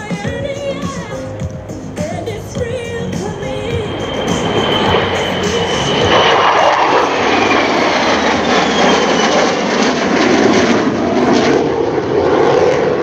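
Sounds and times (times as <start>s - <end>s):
jets passing overhead: 0.0s - 13.0s
high jet whine sliding down: 0.2s - 13.0s.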